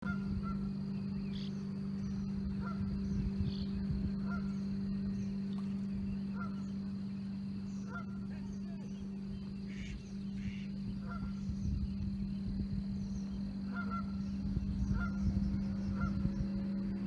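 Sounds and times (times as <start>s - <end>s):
gulls calling: 0.0s - 17.0s
steady low hum: 0.0s - 17.0s.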